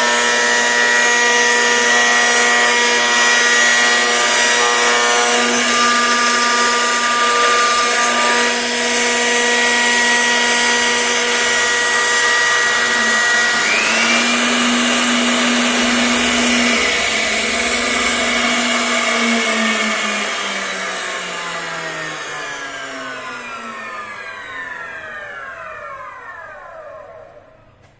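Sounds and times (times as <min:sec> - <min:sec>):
router spindle whine: 0:00.0 - 0:27.9
cutting noise: 0:00.5 - 0:23.6.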